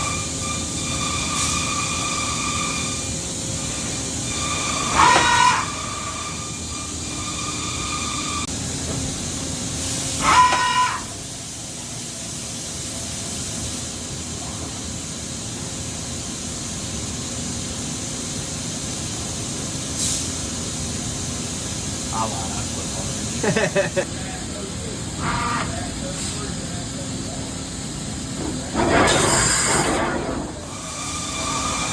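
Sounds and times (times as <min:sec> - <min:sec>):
machine running with hiss: 0:00.0 - 0:31.9.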